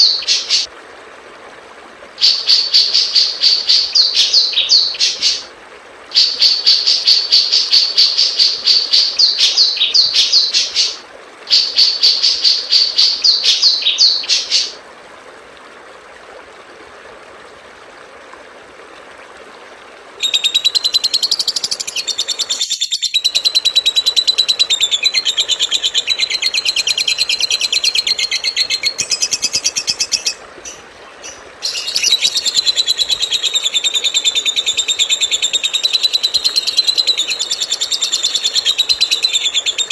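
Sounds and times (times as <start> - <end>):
recorded songbird chirping: 0.0 - 0.7, 2.2 - 5.5, 6.2 - 14.8, 20.2 - 39.9.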